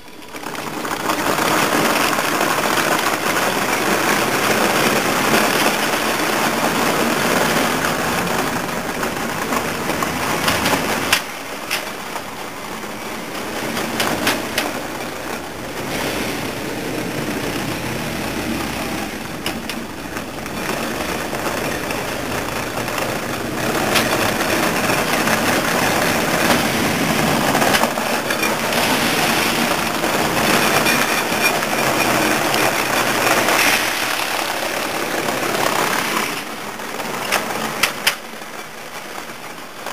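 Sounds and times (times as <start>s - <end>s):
rc tank motors and tracks: 0.0s - 39.9s.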